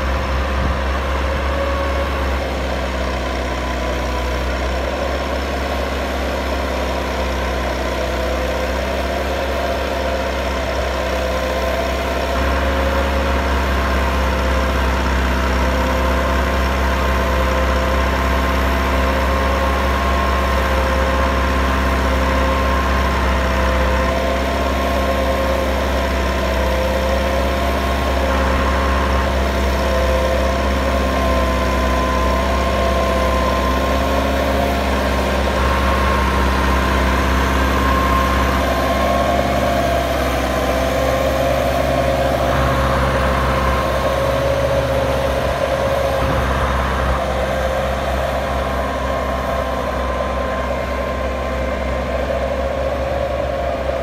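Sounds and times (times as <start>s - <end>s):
steady whine: 0.0s - 54.0s
tractor diesel engine under load: 0.0s - 54.0s.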